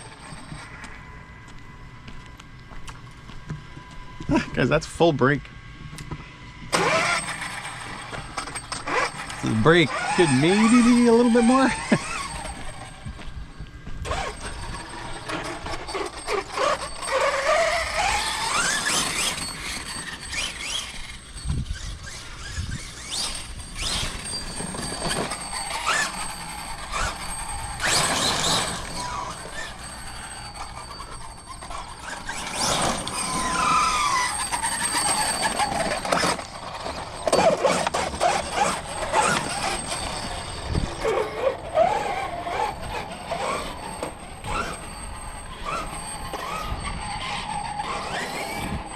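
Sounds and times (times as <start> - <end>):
electric toy truck motor whine: 0.0 - 3.0, 5.6 - 48.9.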